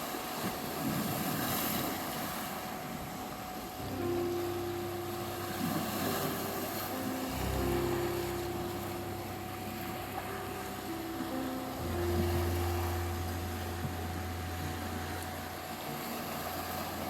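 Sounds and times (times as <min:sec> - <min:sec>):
sea waves washing on shore: 0:00.0 - 0:17.0
steady tone: 0:00.0 - 0:17.0
low synth chords: 0:02.7 - 0:17.0.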